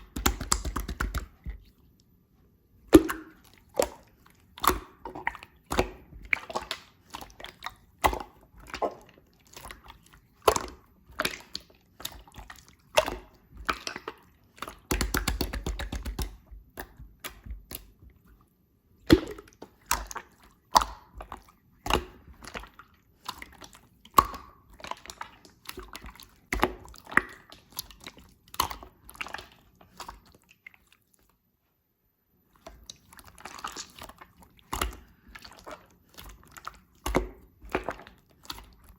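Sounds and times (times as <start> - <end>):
hands squishing slime: 0.0 - 31.3, 32.5 - 38.9.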